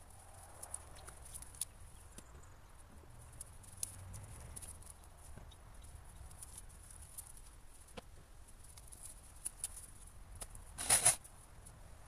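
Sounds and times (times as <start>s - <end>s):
twig crackles: 0.0s - 11.8s.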